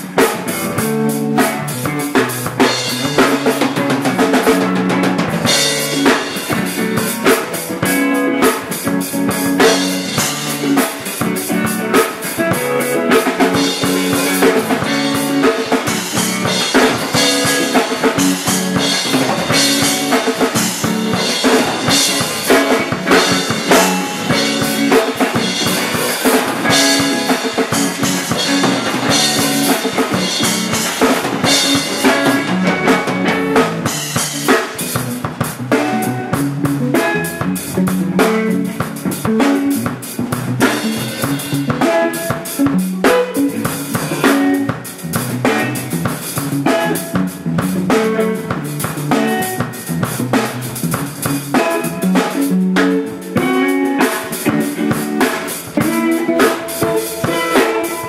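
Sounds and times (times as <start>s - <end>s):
drum kit groove: 0.0s - 58.0s.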